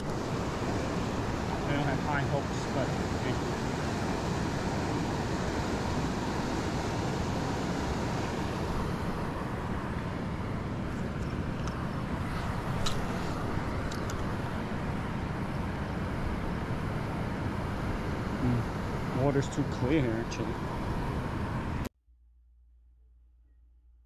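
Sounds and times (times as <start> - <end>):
river rushing: 0.0 - 21.8.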